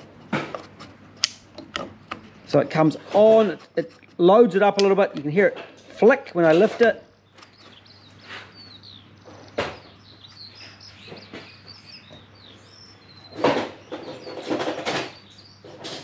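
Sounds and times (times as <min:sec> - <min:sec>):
birds chirping faintly: 0:01.8 - 0:16.0.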